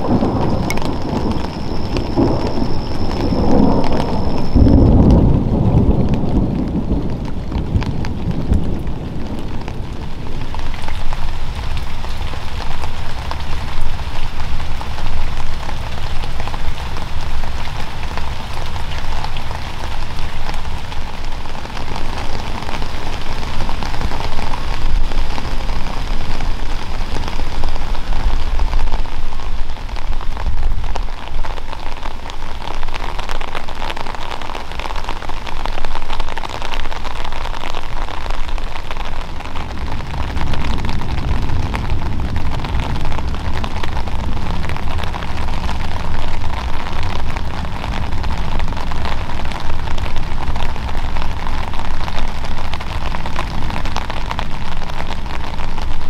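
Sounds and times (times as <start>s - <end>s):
rain falling: 0.0s - 56.0s
thunder rumble: 0.0s - 56.0s.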